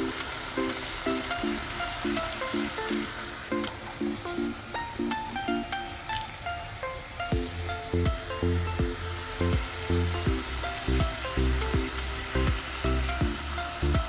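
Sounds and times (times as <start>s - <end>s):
background music with beat: 0.0s - 14.0s
food sizzling in oil: 0.0s - 14.0s.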